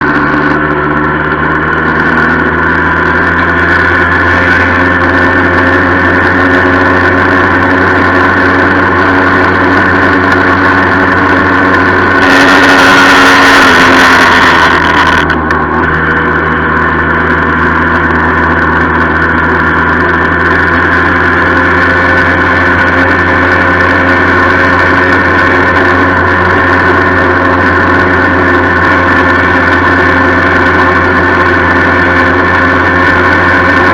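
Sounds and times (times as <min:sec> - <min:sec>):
loud rushing noise: 0:00.0 - 0:33.9
moped engine running: 0:00.0 - 0:33.9.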